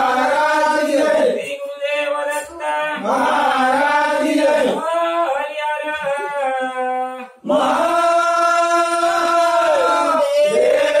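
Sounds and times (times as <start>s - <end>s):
men chanting devotional song: 0.0s - 11.0s.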